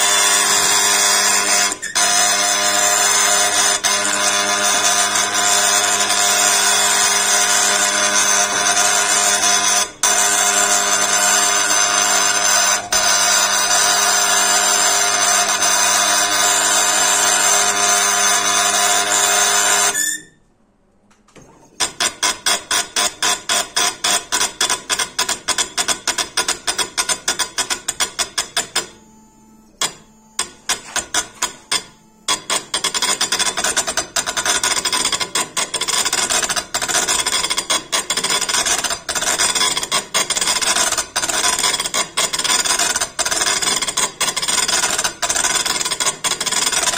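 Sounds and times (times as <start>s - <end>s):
engraving machine hammering stone: 0.0s - 20.0s, 21.4s - 29.0s, 29.7s - 46.9s
machine running tone: 0.0s - 20.5s, 21.4s - 46.9s.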